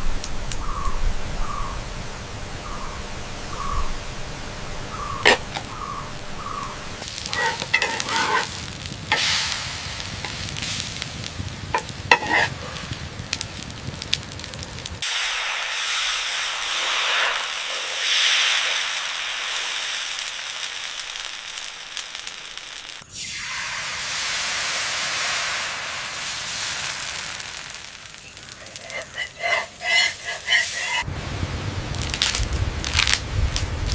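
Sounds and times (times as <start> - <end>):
food sizzling in hot oil: 4.9 - 33.9.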